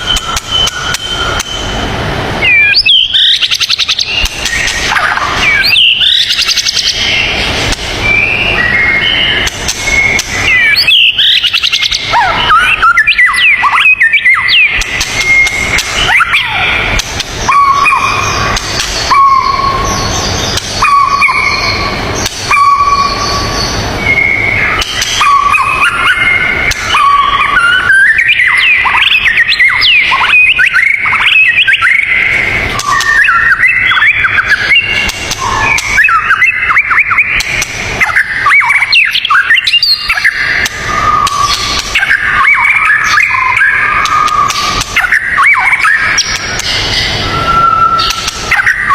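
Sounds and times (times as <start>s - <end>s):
noisy background: 0.0s - 48.9s
songbirds singing: 0.0s - 48.9s.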